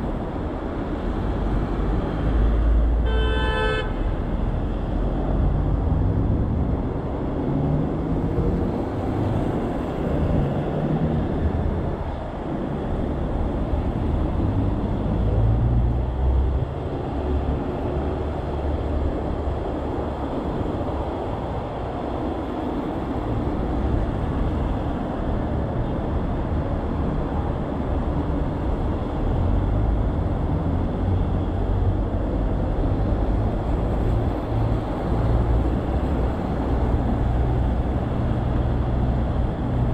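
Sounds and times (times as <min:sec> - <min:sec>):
road traffic noise: 0:00.0 - 0:39.9
wind rumbling on microphone: 0:04.1 - 0:39.9.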